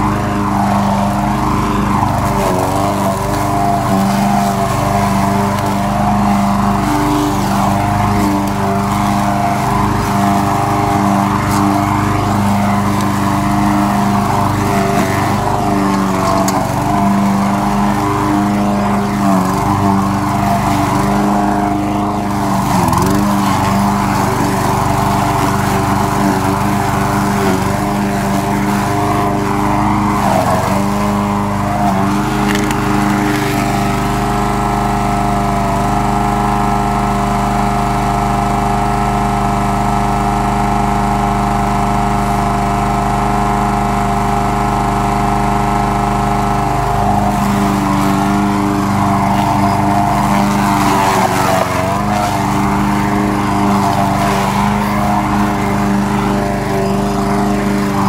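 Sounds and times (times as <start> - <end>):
push mower engine cutting grass: 0.0 - 58.0.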